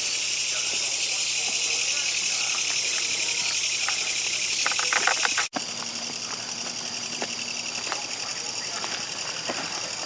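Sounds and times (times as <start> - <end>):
sharp ticks: 0.0 - 9.4
crickets and insects chirping: 0.0 - 10.0.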